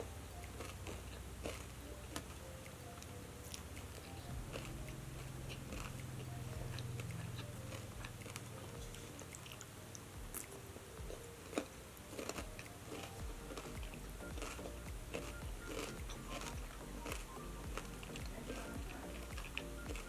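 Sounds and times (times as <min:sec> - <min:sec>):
low steady hum: 0:00.0 - 0:20.0
person biting and chewing: 0:00.0 - 0:20.0.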